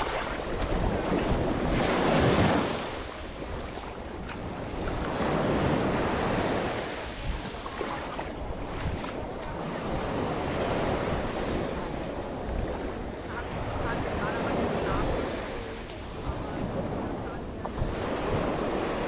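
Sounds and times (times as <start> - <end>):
sea waves washing ashore: 0.0 - 19.0
wind buffeting microphone: 0.0 - 19.0.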